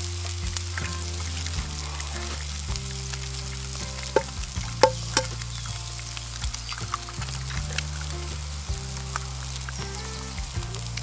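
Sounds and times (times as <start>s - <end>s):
background music: 0.0s - 11.0s
meat and mushrooms sizzling in a pan: 0.0s - 11.0s.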